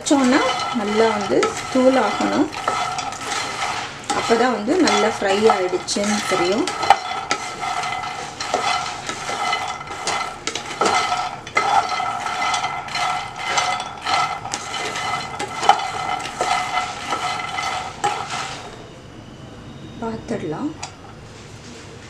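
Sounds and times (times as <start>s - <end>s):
seeds scraping and clicking in pan: 0.0s - 18.6s.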